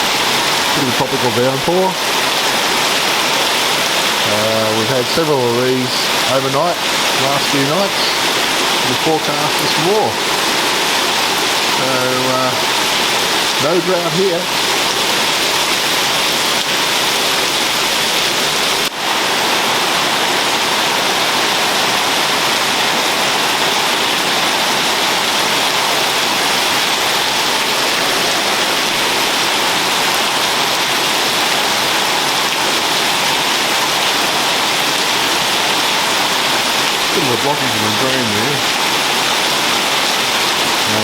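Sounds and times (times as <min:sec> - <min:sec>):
heavy rain hiss: 0:00.0 - 0:41.0.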